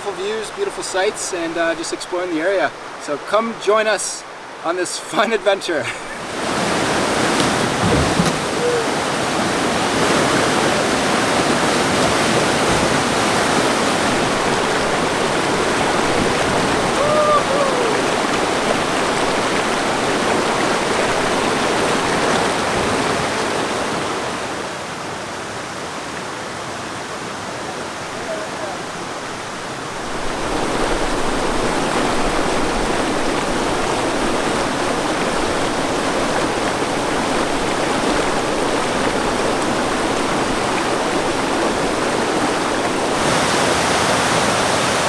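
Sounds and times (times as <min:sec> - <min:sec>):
river rapids rushing: 0:00.0 - 0:45.0.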